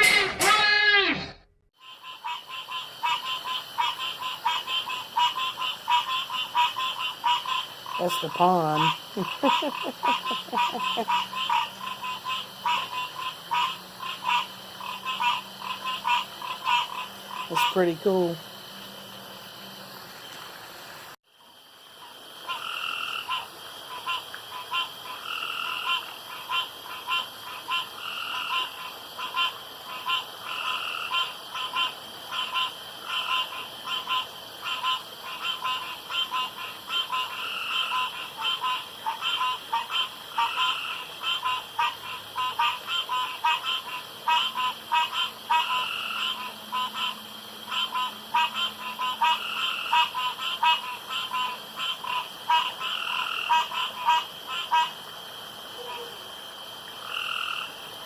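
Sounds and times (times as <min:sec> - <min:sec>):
frogs croaking in chorus: 0:01.8 - 0:20.5, 0:21.3 - 0:58.0.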